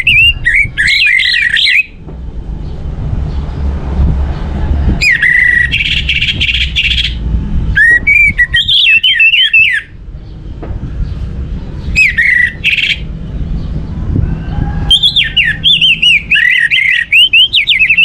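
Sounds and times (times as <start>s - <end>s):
steady low rumble: 0.0s - 17.8s.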